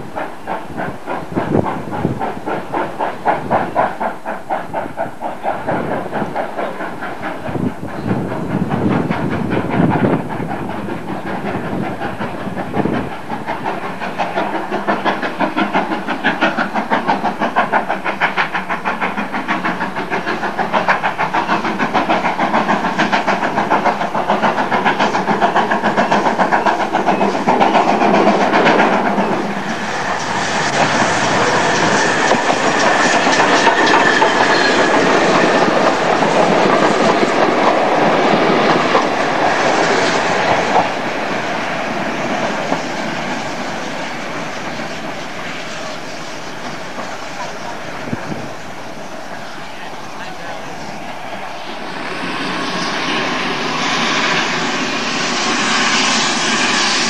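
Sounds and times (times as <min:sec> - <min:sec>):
wheels clicking on track: 0:00.0 - 0:51.1
steam locomotive passing: 0:00.0 - 0:57.0.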